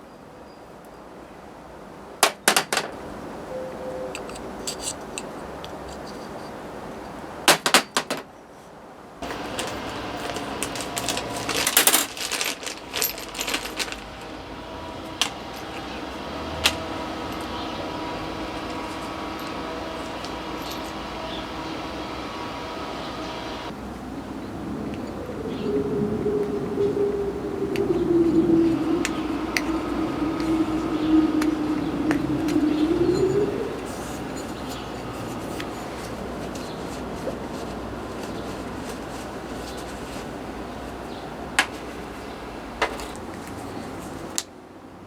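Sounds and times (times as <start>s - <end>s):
mechanical hum: 0.0s - 45.0s.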